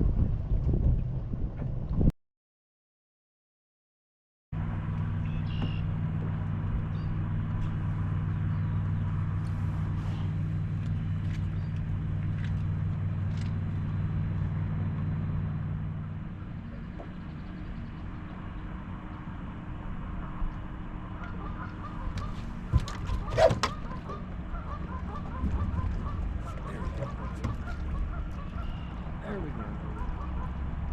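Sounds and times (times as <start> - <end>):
boat motor running: 4.6 - 30.9.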